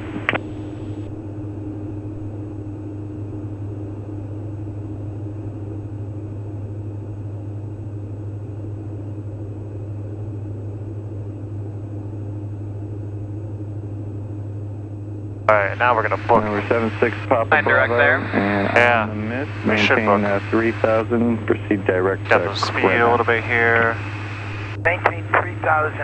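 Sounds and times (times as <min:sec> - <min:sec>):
aircraft engines droning: 0:00.0 - 0:26.0.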